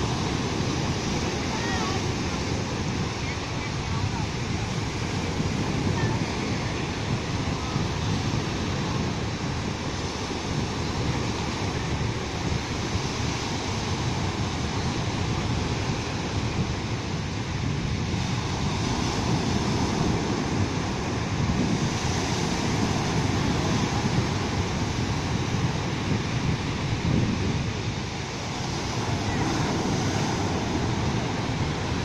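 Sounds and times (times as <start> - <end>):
waves breaking on beach: 0.0 - 32.0.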